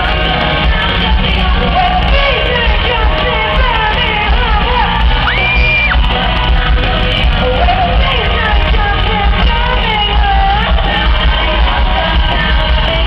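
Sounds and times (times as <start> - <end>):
crowd shouting and screaming: 0.0 - 13.0
live pop music: 0.0 - 13.0
women singing: 0.0 - 13.0.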